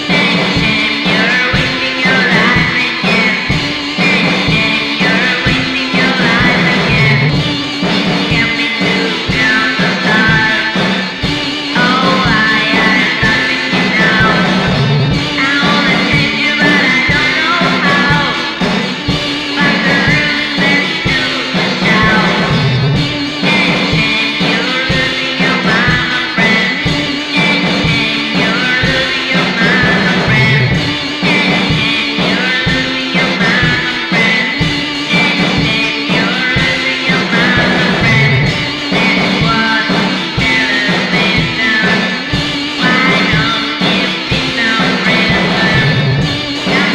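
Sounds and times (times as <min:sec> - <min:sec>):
garage rock band playing: 0:00.0 - 0:46.9
woman singing: 0:00.0 - 0:46.9.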